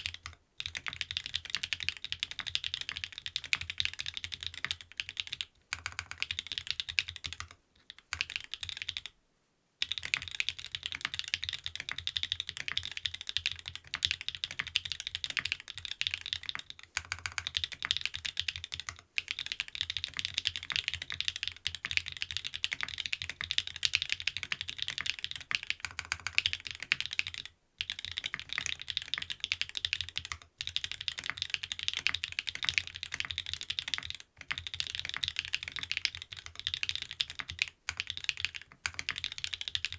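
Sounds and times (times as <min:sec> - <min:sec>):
mechanical keyboard typing clacks: 0:00.0 - 0:09.1, 0:09.8 - 0:39.9.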